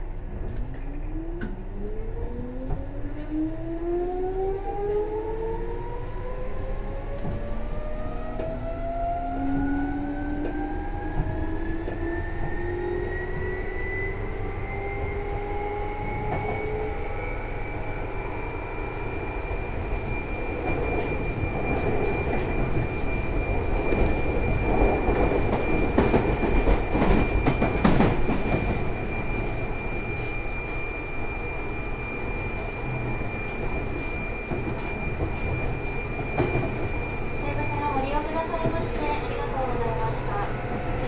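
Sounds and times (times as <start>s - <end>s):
rail rumble: 0.0s - 41.0s.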